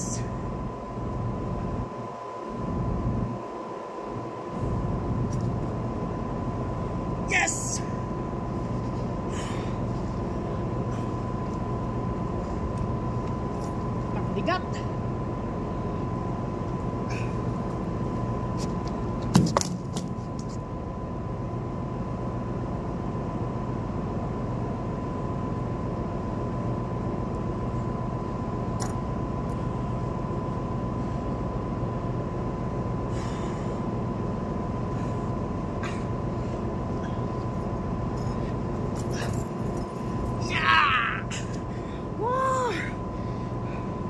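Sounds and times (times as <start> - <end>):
boat machinery drone: 0.0 - 19.3, 20.1 - 44.0.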